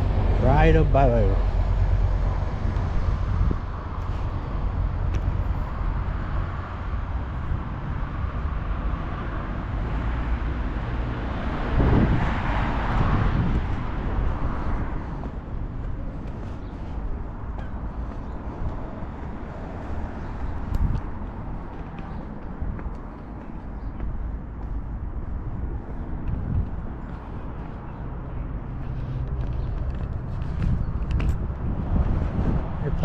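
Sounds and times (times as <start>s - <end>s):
road traffic: 0.0s - 33.0s
vehicle passing by: 0.0s - 33.0s.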